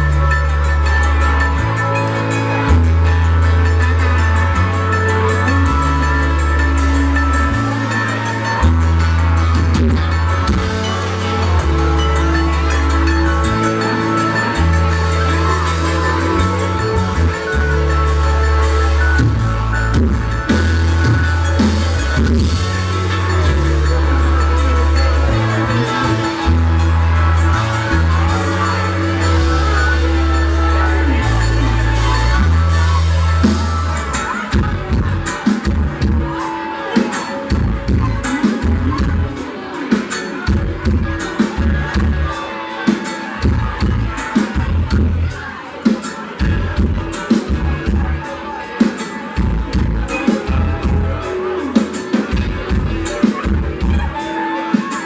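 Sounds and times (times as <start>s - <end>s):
held bass notes: 0.0s - 39.7s, 40.5s - 42.6s, 43.3s - 45.8s, 46.4s - 48.7s, 49.3s - 54.5s
live country band playing: 0.0s - 55.0s
steady drum beat: 0.0s - 55.0s.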